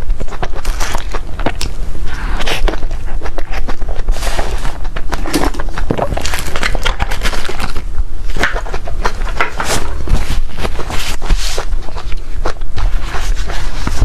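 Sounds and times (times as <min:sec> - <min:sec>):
crunchy eating and chewing: 0:00.0 - 0:14.0.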